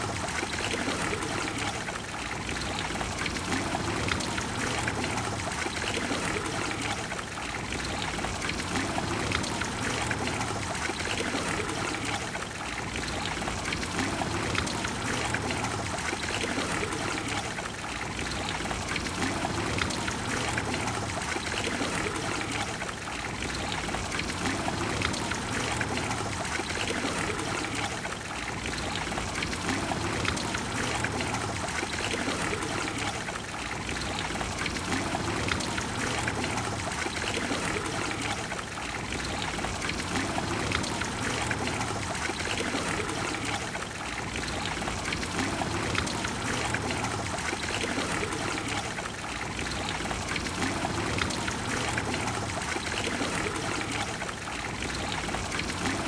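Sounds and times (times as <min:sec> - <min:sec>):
fountain water rushing: 0:00.0 - 0:56.0.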